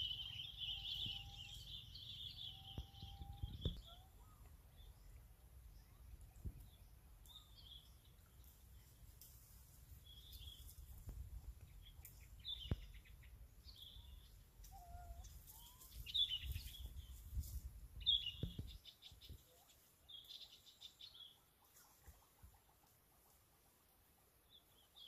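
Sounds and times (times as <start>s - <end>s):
bird chirping: 0.0s - 22.7s.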